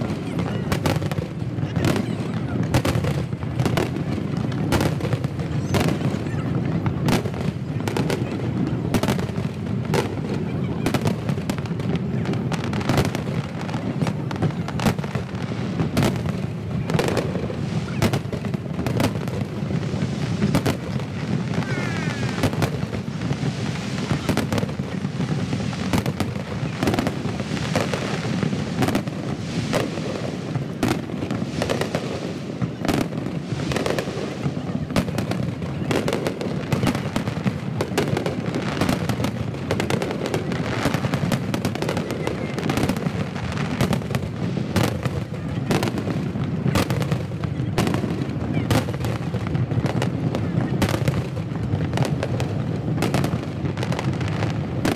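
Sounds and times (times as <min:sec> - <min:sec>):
fireworks crackling: 0:00.0 - 0:54.9.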